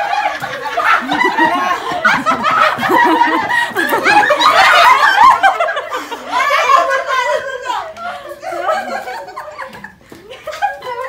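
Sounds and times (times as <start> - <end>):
women laughing: 0.0 - 11.0.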